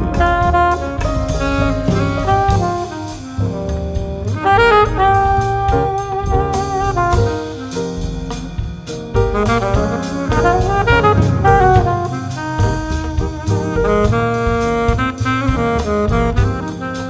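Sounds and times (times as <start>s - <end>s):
drums: 0.0s - 17.0s
piano: 0.0s - 17.0s
saxophone melody: 0.0s - 17.0s
upright bass: 0.0s - 17.0s.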